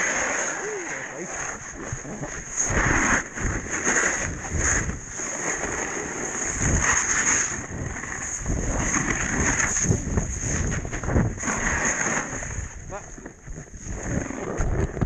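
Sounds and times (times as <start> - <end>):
snowboard ploughing through powder: 0.0 - 15.0
wind buffeting microphone: 1.6 - 5.8, 6.4 - 15.0.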